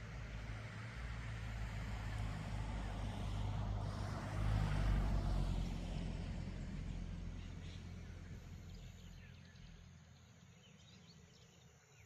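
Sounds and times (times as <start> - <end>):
passing motor vehicle engine hum: 0.0 - 11.5.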